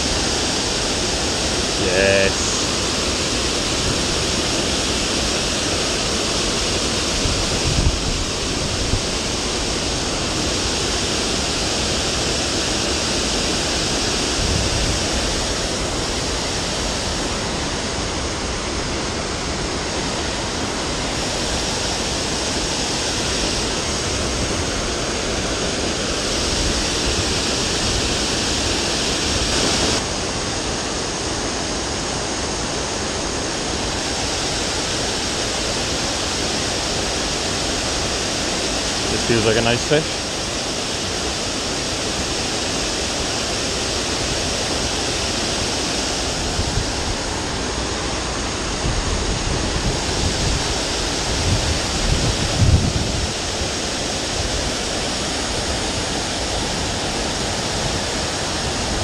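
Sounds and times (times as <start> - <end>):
river water pouring over weir: 0.0 - 59.0.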